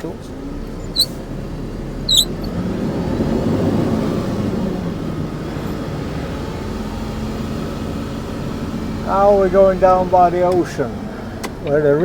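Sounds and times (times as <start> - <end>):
truck engine drone: 0.2 - 12.0.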